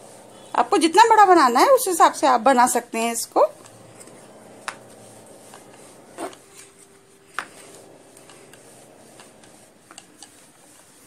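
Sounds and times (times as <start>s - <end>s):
rolling pin rubbing on dough: 0.0s - 11.0s.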